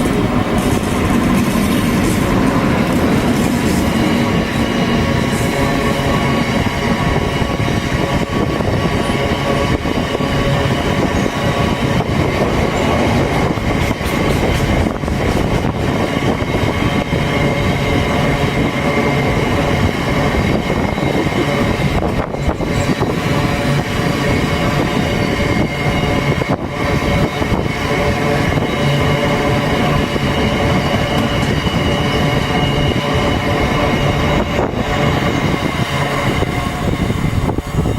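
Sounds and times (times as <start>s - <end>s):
steady tones: 0.0s - 37.9s
train wheels rumbling on rail: 0.0s - 37.9s.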